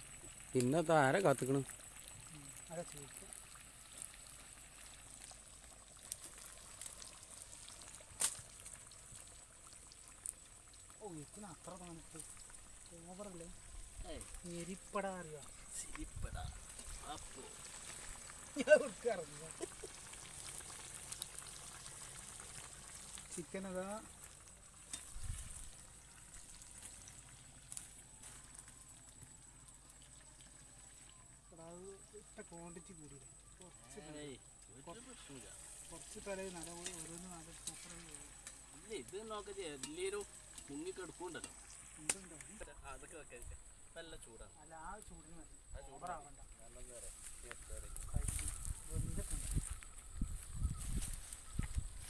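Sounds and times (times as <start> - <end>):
crackles and pops: 0.0 - 31.5, 32.2 - 44.3, 45.9 - 52.0
chicken sizzling in oil: 0.0 - 45.1, 45.7 - 52.0.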